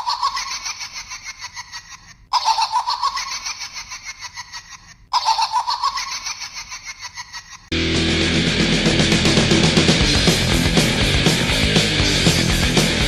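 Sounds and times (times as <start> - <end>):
rapid laughing: 0.0 - 13.0.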